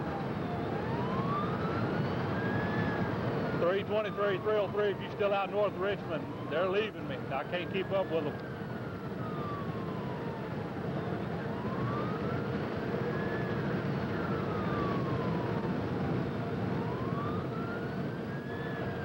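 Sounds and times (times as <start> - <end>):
engine and road noise: 0.0 - 19.0
police siren wailing: 0.0 - 19.0.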